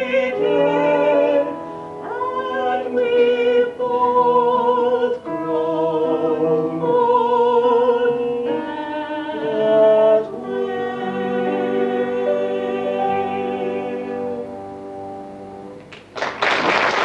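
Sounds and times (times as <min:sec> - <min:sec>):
woman singing: 0:00.0 - 0:14.5.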